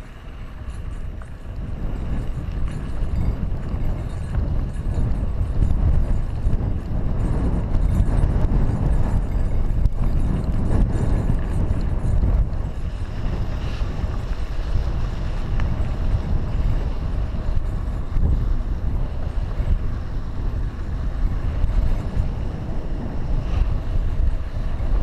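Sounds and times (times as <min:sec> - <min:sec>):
bike tyres rolling on dirt: 0:00.0 - 0:25.0
wind buffeting microphone: 0:00.0 - 0:25.0.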